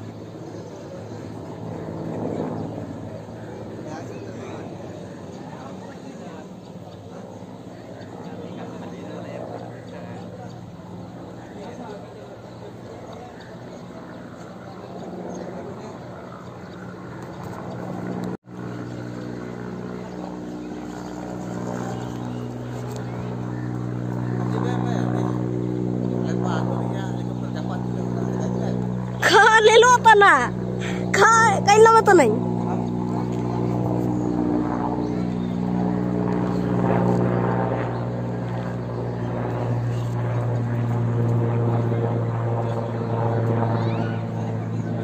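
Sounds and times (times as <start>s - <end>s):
helicopter rotor and engine drone: 0.0s - 45.0s.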